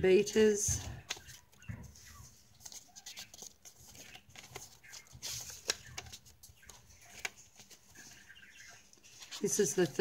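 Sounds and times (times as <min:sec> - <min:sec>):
paper pages rustling: 0:00.6 - 0:10.0.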